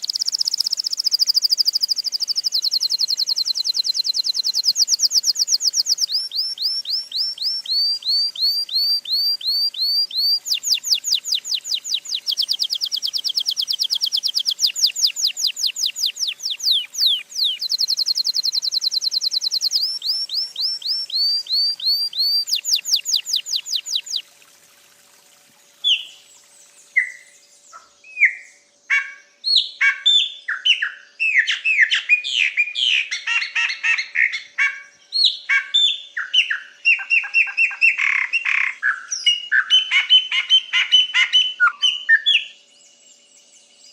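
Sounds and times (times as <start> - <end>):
lower varied bird chirps: 0.0 - 25.0, 25.6 - 43.9
songbirds singing: 0.0 - 43.9.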